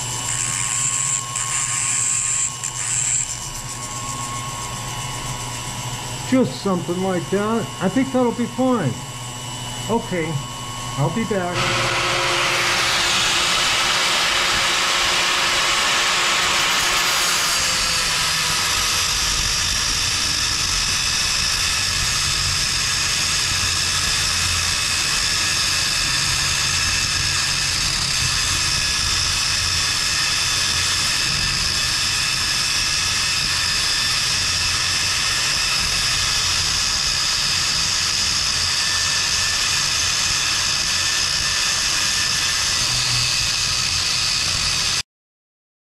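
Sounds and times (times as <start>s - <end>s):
grinder grinding steel rod: 0.0s - 5.7s, 11.0s - 45.0s
angle grinder whine: 0.0s - 45.0s.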